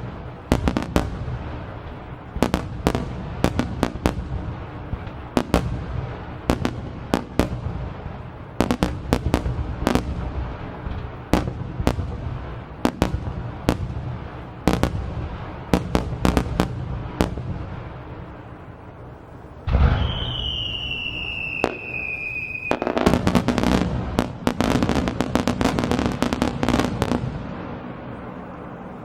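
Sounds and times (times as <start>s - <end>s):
fireworks bursting: 0.0s - 29.0s
low rumble of echoing bangs: 0.0s - 29.0s.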